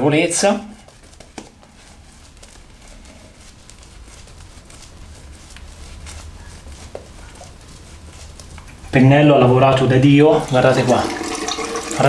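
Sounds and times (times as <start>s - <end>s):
shaving brush swishing on skin: 0.4s - 12.0s.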